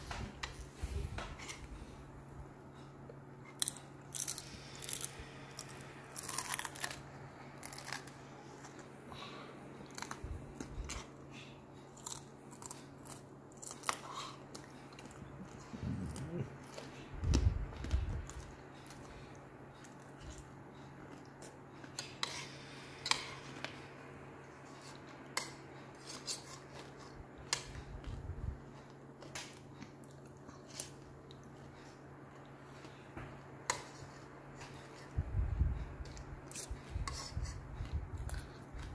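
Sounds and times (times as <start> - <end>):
person chewing food: 2.9 - 38.9.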